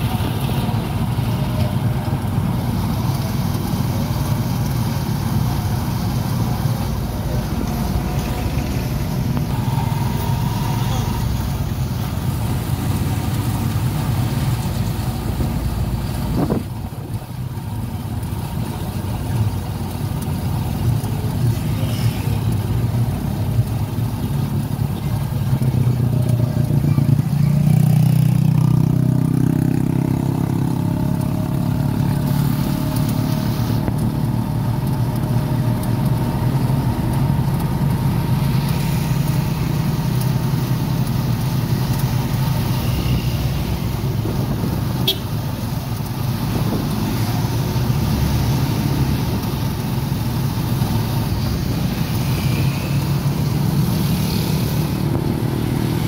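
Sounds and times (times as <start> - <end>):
motorcycle engine running: 0.0 - 56.0
road noise: 0.0 - 56.0.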